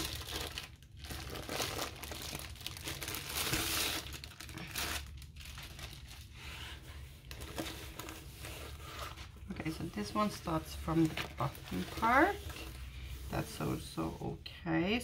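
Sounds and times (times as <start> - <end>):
plastic sleeve crinkling: 0.0 - 13.9
canvas rustling: 0.0 - 14.2.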